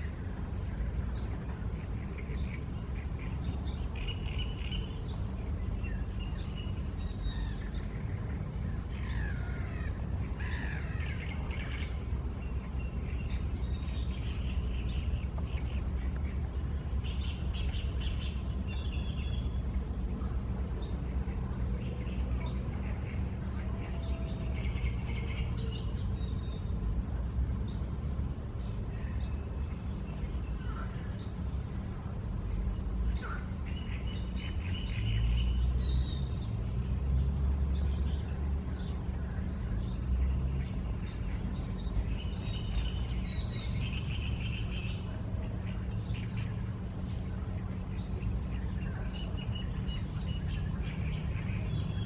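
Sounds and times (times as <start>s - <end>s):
songbirds chirping and trilling: 0.0s - 52.0s
steady low rumble: 0.0s - 52.0s.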